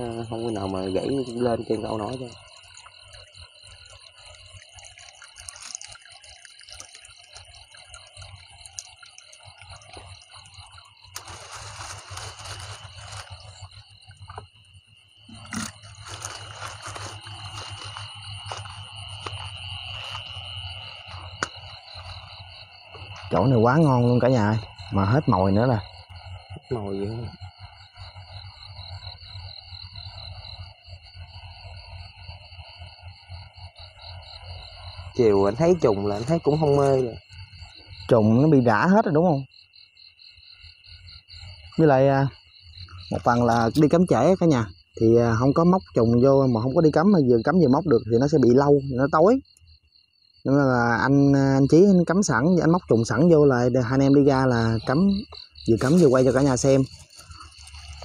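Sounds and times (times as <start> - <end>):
water splashing and trickling: 0.0 - 39.4, 41.4 - 49.6, 50.5 - 58.0
crickets and insects chirping: 0.0 - 58.0.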